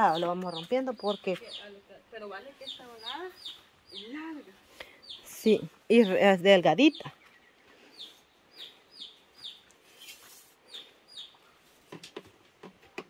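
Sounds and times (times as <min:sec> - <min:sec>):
bird chirping: 0:00.0 - 0:11.7.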